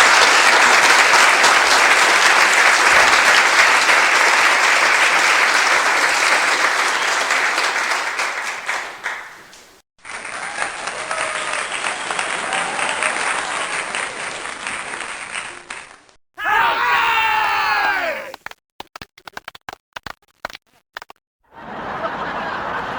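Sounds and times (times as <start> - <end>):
crowd applause: 0.0 - 18.4, 21.5 - 22.9.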